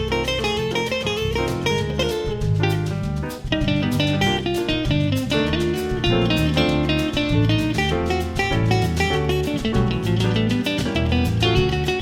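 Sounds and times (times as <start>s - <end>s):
plucked guitar: 0.0s - 12.0s
steady bass line: 0.0s - 12.0s.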